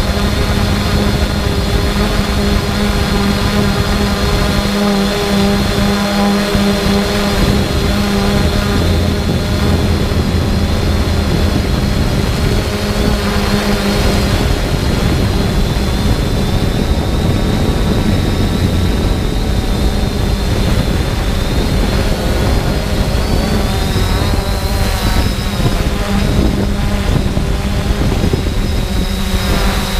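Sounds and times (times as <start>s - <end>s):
drone propellers whirring: 0.0s - 29.9s.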